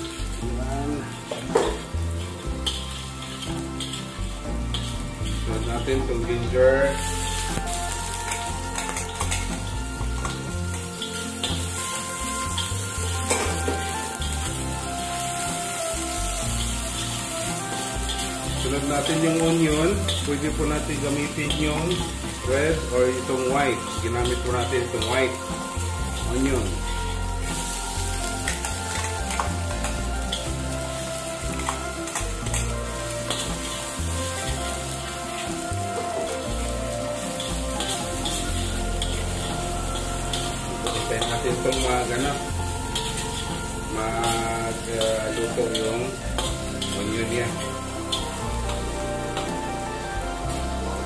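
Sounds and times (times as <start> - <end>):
background music: 0.0 - 51.0
garlic sizzling in oil: 0.0 - 51.0
metal spatula scraping wok: 0.0 - 51.0.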